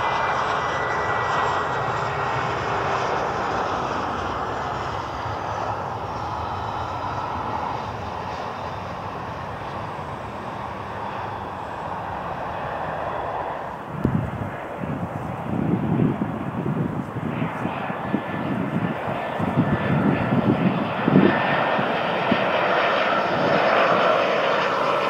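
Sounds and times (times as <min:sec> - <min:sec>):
faint high engine whine: 0:00.0 - 0:25.0
jet engine rush: 0:00.0 - 0:25.0.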